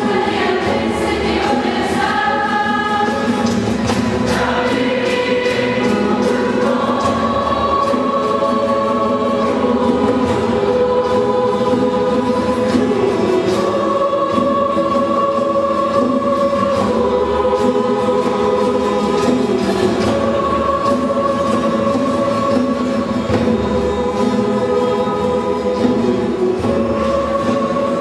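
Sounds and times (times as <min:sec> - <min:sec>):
choir singing held chords: 0:00.0 - 0:28.0.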